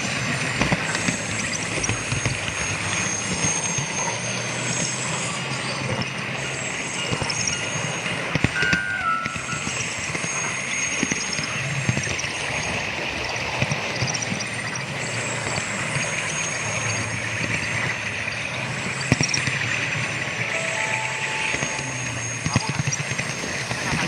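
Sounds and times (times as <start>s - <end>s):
model train rolling on track: 0.0s - 24.0s
sharp clicks from rails: 0.0s - 24.0s
train sound effects: 0.0s - 24.0s.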